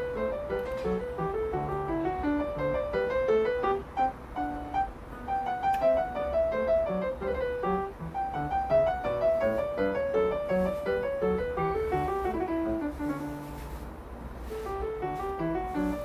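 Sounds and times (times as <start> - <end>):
classical piano music: 0.0 - 16.0.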